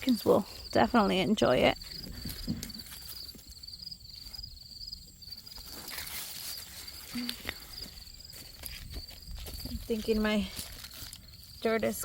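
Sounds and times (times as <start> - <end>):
insects trilling: 0.0 - 12.0
faint rustling: 1.4 - 12.0.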